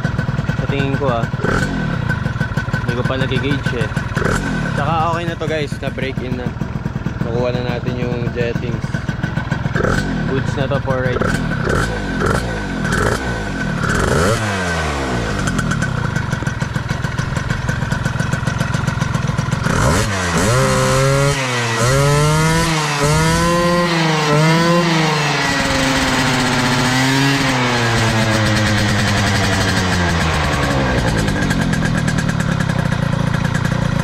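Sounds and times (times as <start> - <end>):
scooter engine revving: 0.0 - 34.0.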